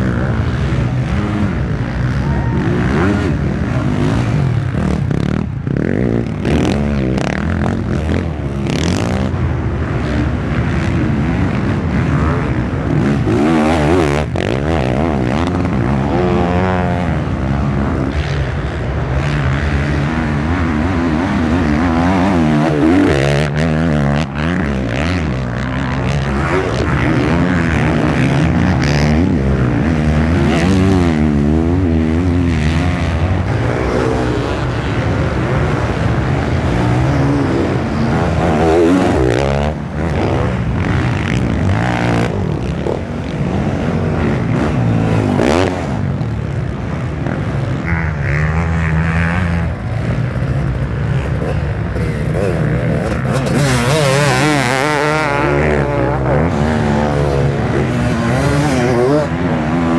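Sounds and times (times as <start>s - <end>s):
off-road motorcycle engines revving: 0.0s - 59.9s.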